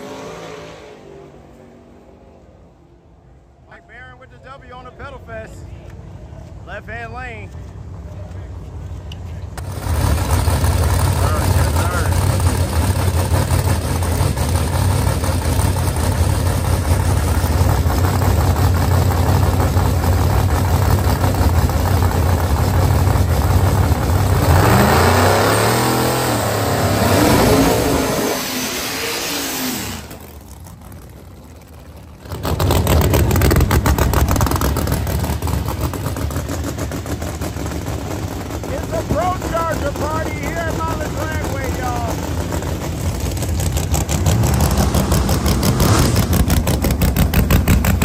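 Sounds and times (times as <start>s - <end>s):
race car engines revving: 0.0s - 48.0s.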